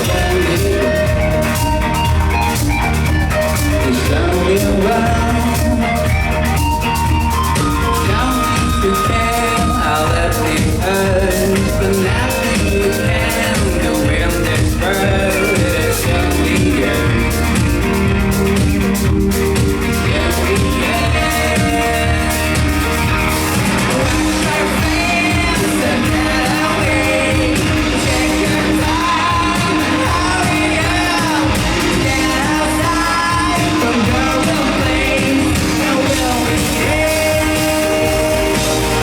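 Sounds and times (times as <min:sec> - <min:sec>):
live rock band playing: 0:00.0 - 0:39.0
person singing: 0:00.0 - 0:39.0.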